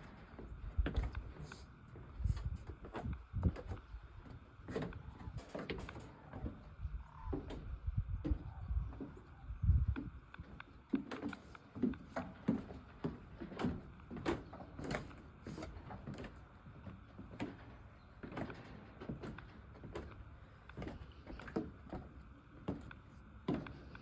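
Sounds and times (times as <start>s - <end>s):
footsteps on wooden planks: 0.0s - 24.0s.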